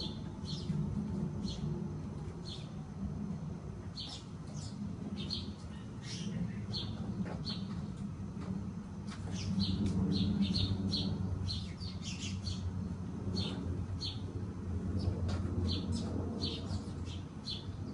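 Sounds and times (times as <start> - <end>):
small birds chirping: 0.0 - 0.8, 1.4 - 1.8, 2.4 - 2.8, 3.9 - 8.0, 9.1 - 17.9
steady low hum: 0.0 - 17.9.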